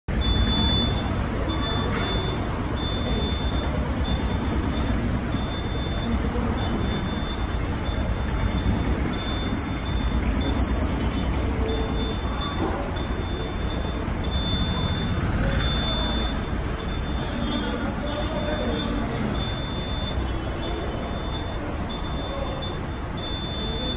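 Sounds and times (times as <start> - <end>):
high-pitched warning beep: 0.1 - 23.9
scissor lift hum: 0.1 - 23.9.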